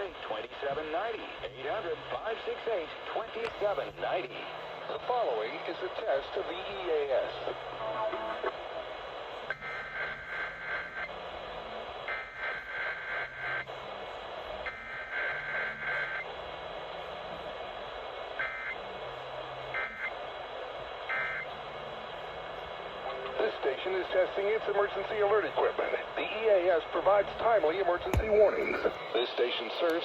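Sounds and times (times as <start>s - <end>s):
hissing radio static: 0.0s - 30.0s.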